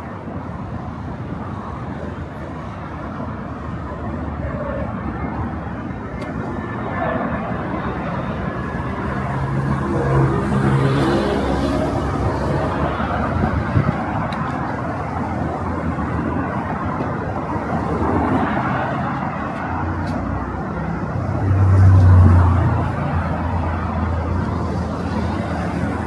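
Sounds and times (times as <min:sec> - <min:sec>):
city hum: 0:00.0 - 0:26.0.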